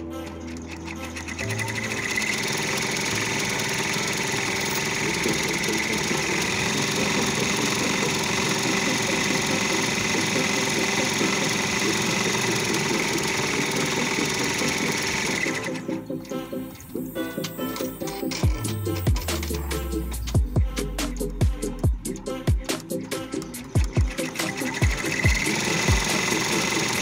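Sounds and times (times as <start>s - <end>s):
embroidery machine running: 0.0s - 20.7s, 22.0s - 27.0s.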